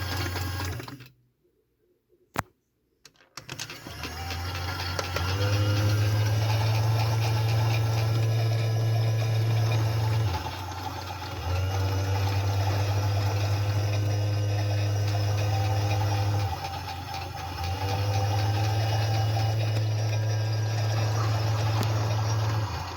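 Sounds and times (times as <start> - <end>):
washing machine motor humming: 3.7 - 22.9.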